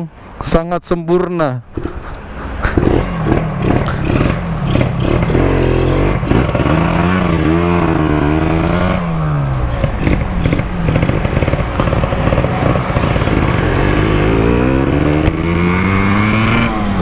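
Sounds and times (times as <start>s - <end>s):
two-stroke motorcycle engine: 2.7s - 17.0s.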